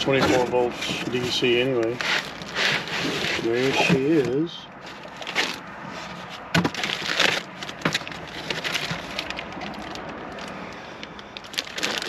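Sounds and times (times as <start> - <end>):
packaging crackling and rustling: 0.0 - 12.0.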